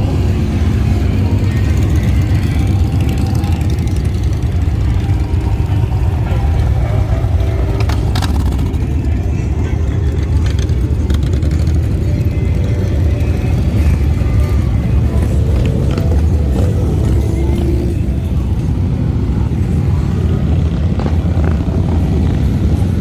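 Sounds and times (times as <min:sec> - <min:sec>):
motorcycle engines rumbling: 0:00.0 - 0:23.0.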